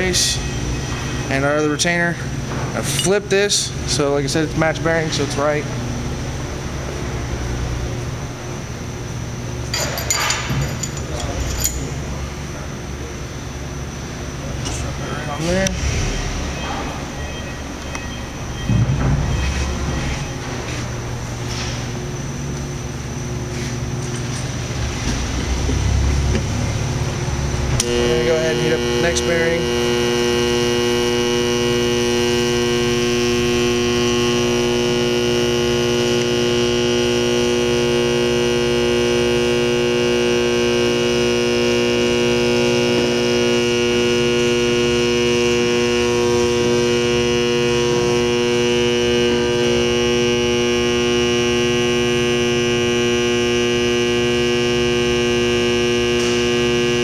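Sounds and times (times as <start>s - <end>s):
loud electrical hum: 0.0s - 57.0s.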